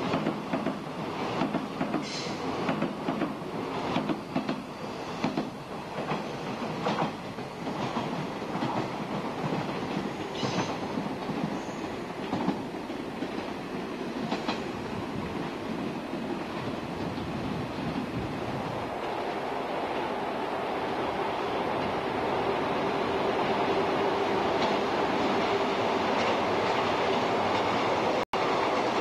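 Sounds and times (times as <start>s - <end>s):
train rolling rumble: 0.0s - 29.0s.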